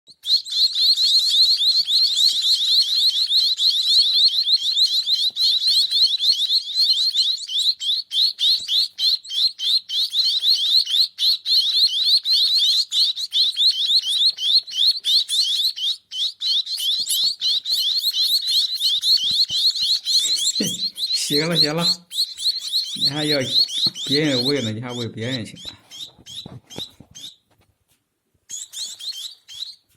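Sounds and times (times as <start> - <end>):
young bird begging calls: 0.2 - 27.4.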